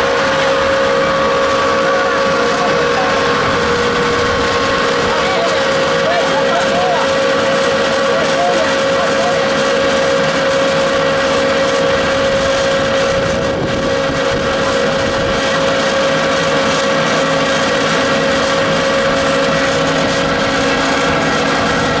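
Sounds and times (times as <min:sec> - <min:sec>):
pellet mill running: 0:00.0 - 0:22.0.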